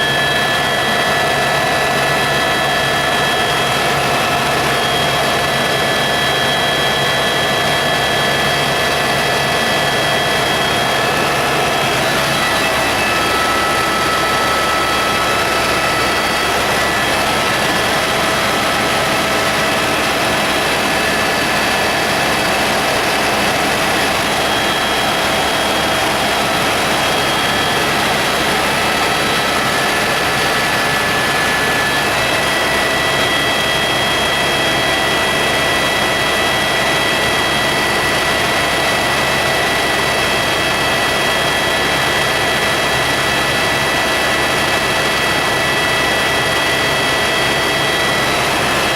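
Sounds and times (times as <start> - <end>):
high whining tones: 0.0 - 41.3
helicopter engine and rotor noise: 0.0 - 48.9.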